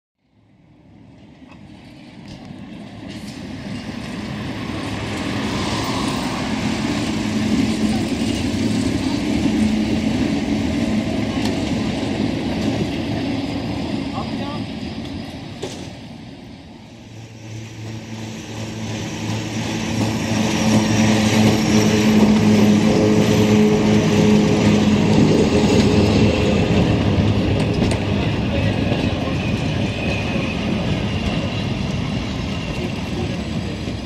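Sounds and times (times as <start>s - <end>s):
train rolling past: 0.4s - 34.0s
wheel-on-rail noise: 1.0s - 34.0s.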